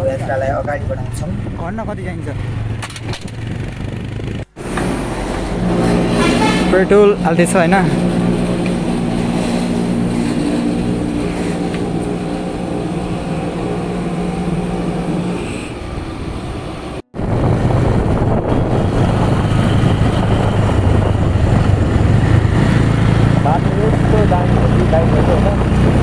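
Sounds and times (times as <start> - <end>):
road and wind noise: 0.0 - 26.0
vehicle engine running: 0.0 - 26.0.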